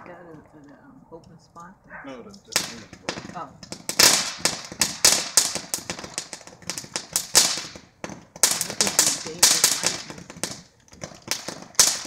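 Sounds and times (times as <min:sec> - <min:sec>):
firecrackers banging: 0:02.3 - 0:12.0.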